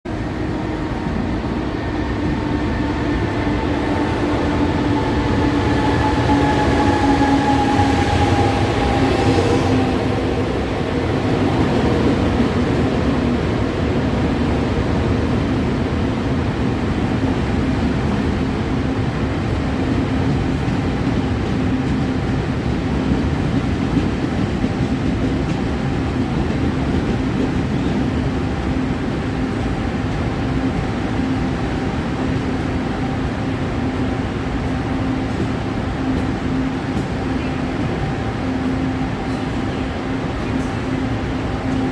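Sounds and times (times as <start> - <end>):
train rumble and whine: 0.1 - 41.9.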